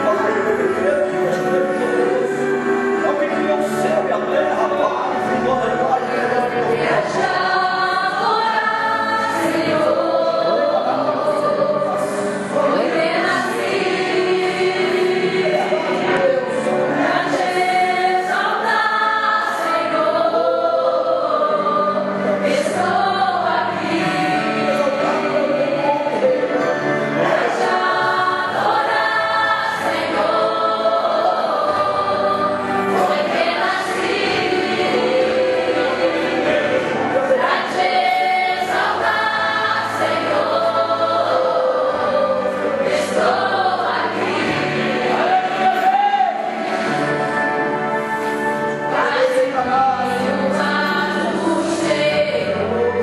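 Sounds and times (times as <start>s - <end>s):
women singing a hymn: 6.0s - 53.0s.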